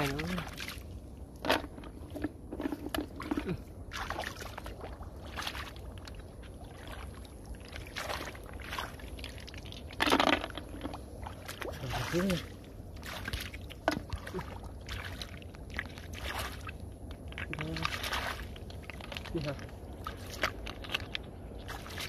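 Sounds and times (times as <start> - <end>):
hands splashing in muddy water: 2.6 - 10.0, 10.8 - 22.0.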